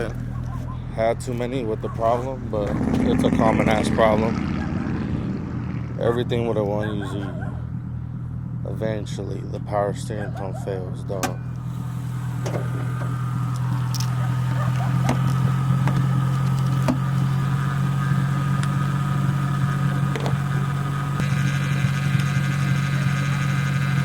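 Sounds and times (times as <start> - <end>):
car engine idling: 0.0 - 24.0
steady whine: 0.0 - 24.0.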